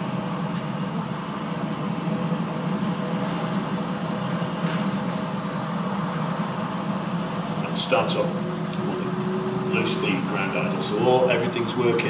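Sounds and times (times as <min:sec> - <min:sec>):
helicopter turbine engines humming: 0:00.0 - 0:12.0.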